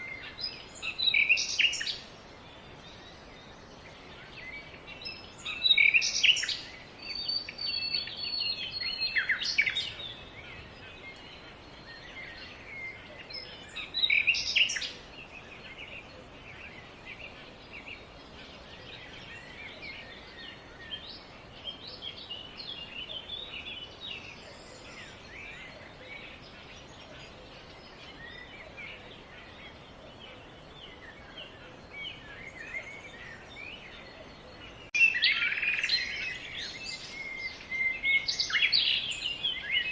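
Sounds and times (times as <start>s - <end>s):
songbirds singing and chirping: 0.0s - 39.9s
steady outdoor hiss: 0.0s - 39.9s.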